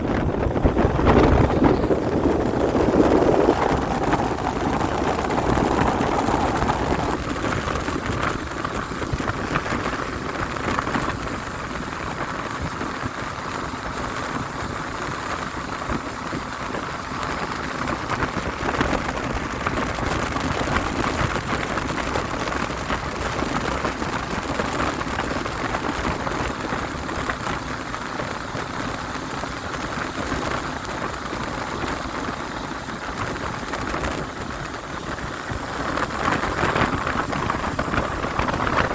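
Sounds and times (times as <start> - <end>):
speedboat engine: 0.0 - 38.9
wind on microphone: 0.0 - 38.9.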